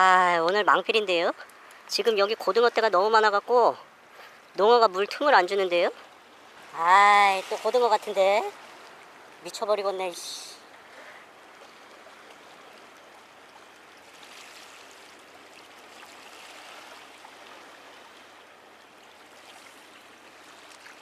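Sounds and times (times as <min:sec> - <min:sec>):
sea water washing against quay: 0:00.0 - 0:21.0.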